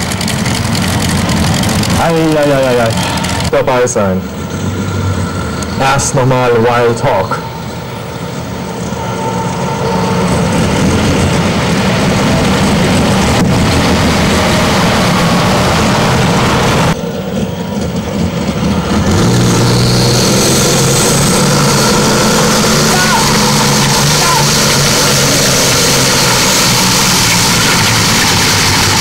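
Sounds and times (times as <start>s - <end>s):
pulling tractor engine drone: 0.0s - 29.0s.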